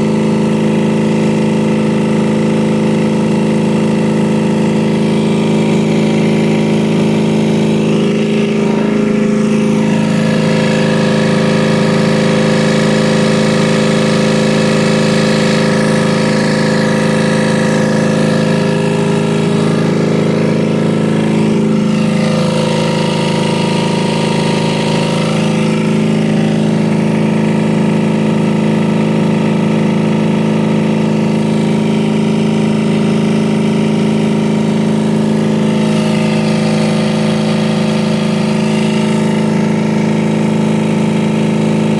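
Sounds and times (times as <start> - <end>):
refrigeration compressor running: 0.0 - 41.9.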